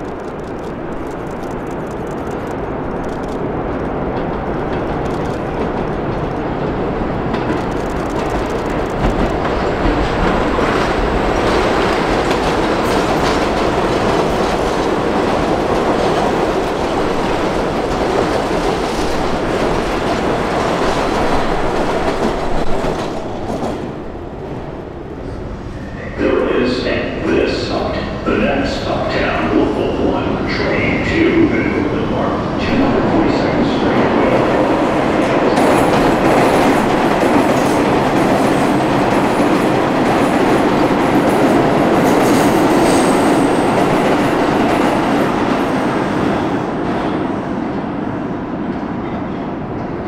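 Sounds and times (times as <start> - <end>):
subway train passing: 0.0 - 50.0.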